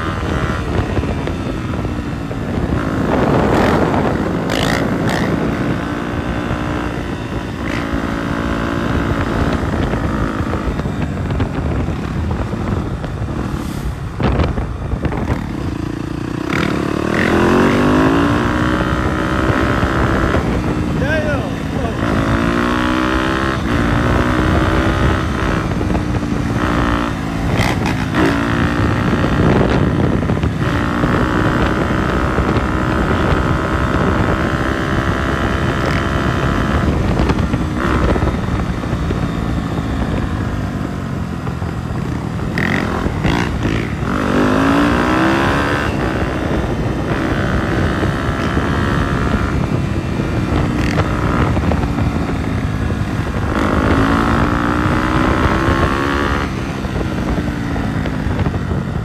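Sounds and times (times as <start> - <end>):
dirt bike engine revving: 0.0 - 40.3, 41.9 - 58.6.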